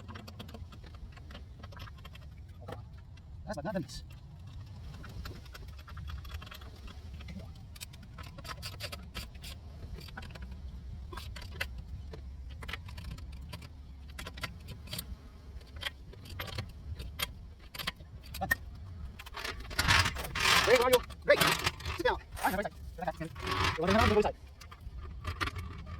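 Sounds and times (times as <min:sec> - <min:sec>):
sharp irregular clicks and clinks: 0:00.0 - 0:25.9.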